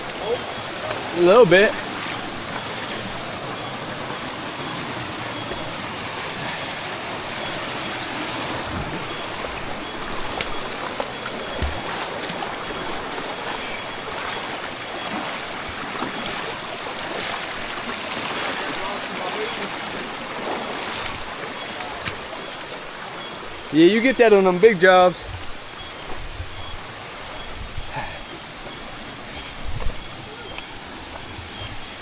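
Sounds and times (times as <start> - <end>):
creek water rushing over rocks: 0.0 - 32.0.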